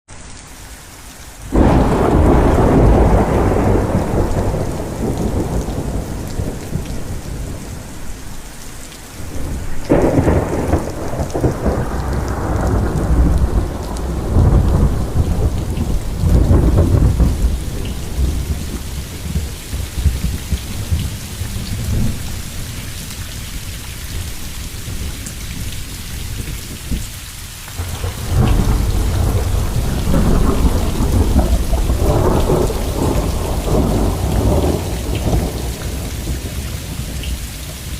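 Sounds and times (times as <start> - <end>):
heavy rain falling: 0.1 - 37.9
rolling thunder: 1.5 - 23.6, 27.8 - 37.9.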